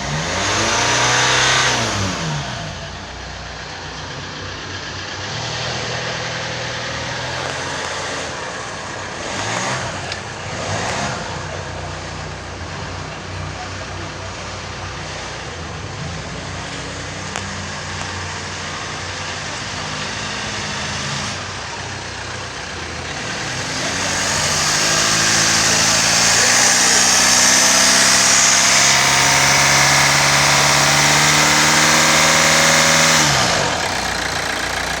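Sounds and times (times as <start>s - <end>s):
diesel engine idling and revving: 0.0s - 35.0s.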